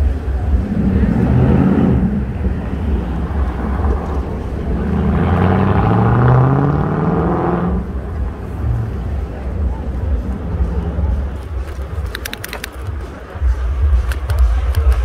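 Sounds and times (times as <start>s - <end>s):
vehicle engine accelerating: 0.0s - 13.3s
cars passing: 0.0s - 15.0s
low traffic rumble: 0.0s - 15.0s.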